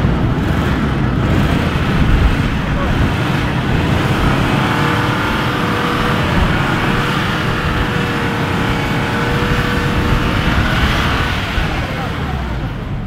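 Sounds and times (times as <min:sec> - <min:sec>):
car engine whining: 0:00.0 - 0:13.0
wheels spinning in snow: 0:00.0 - 0:13.0.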